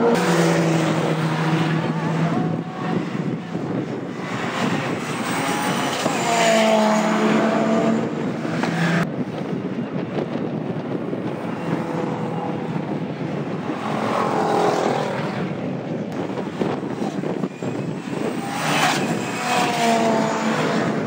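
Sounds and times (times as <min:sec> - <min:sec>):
racing car engines revving past: 0:00.0 - 0:09.1, 0:11.4 - 0:21.0
engine and tyre noise: 0:00.0 - 0:21.0.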